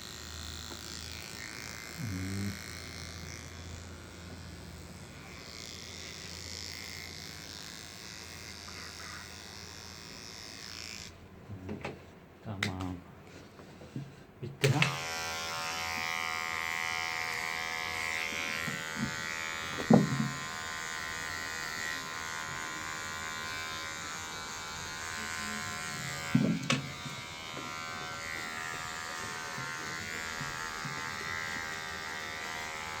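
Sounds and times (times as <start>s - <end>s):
hair clipper buzzing: 0.0s - 11.2s, 14.6s - 33.0s.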